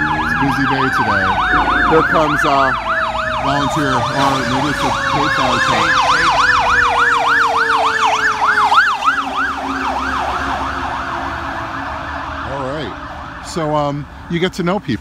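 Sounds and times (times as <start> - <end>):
fire engine siren yelping: 0.0 - 14.9
passing traffic: 0.0 - 15.0.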